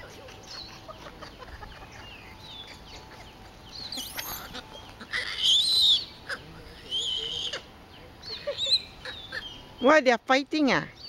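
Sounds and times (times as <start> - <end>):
monkeys screaming: 0.0 - 9.8.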